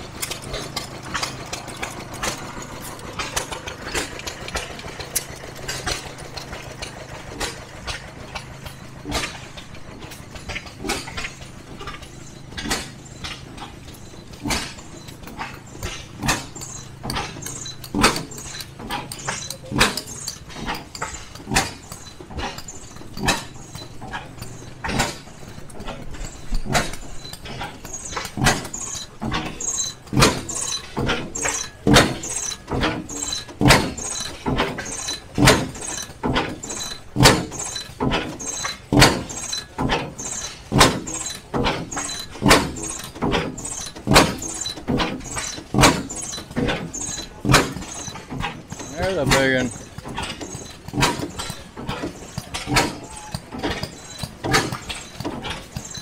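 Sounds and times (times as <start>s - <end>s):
pumping engine knocking: 0.0s - 56.0s.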